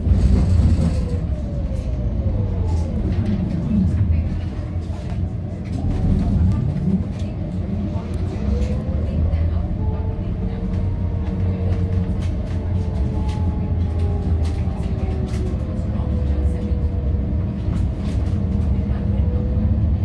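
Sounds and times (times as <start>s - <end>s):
tram rumbling with whine: 0.0s - 20.0s.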